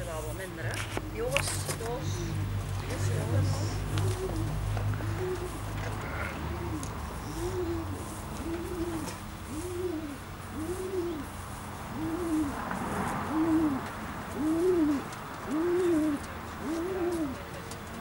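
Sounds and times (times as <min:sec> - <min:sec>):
pigeon cooing: 0:01.9 - 0:17.7.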